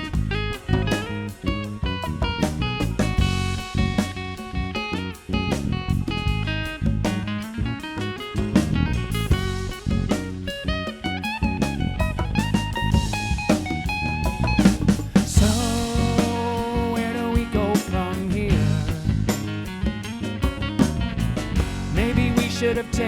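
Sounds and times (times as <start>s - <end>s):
drum beat: 0.0s - 23.0s
electric guitar playing: 0.0s - 23.0s.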